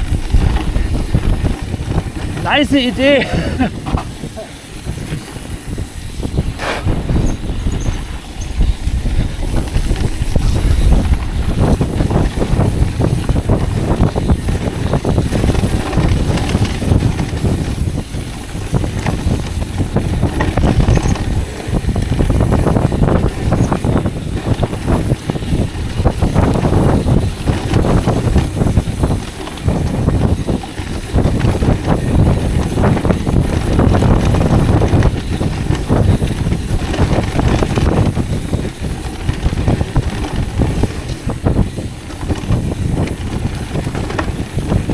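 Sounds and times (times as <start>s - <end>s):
bike rattling over bumps: 0.0s - 44.9s
bike tyre rumble on dirt: 0.0s - 44.9s
wind buffeting microphone: 0.0s - 44.9s.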